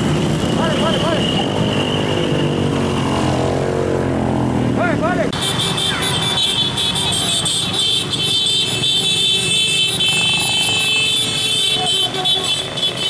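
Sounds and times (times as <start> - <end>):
motorcycle engines passing: 0.0 - 13.0.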